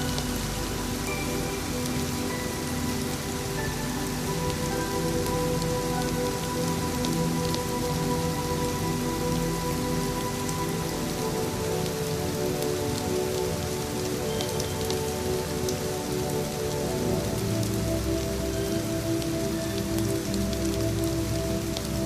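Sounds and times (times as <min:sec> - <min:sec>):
soft ambient music: 0:00.0 - 0:22.0
steady rain falling: 0:00.0 - 0:22.0
ticks of raindrops: 0:00.0 - 0:22.0.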